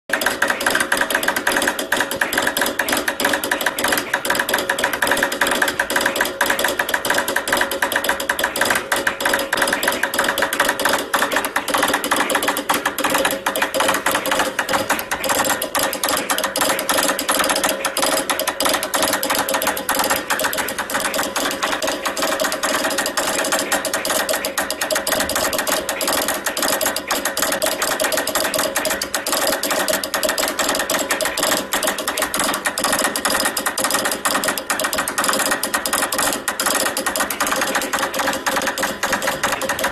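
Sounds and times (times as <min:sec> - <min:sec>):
telegraph key clicking: 0:00.1 - 0:39.9.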